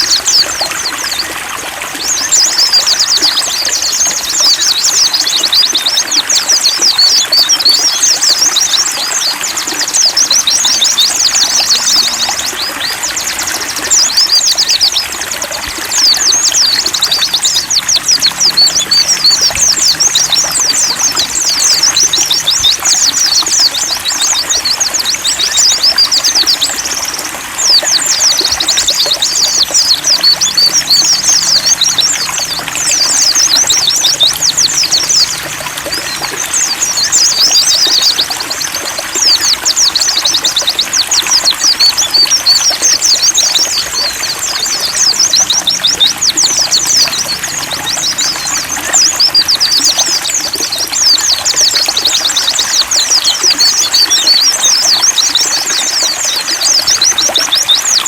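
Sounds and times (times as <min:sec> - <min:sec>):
birds twittering: 0:00.0 - 0:58.0
water trickling: 0:00.0 - 0:58.0.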